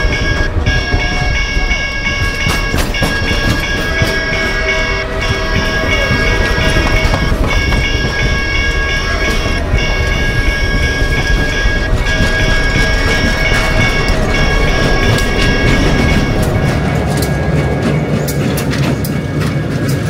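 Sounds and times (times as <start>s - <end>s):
high-pitched tones: 0.0s - 17.6s
train rumbling past: 0.0s - 20.0s
wheel clatter on rails: 0.0s - 20.0s.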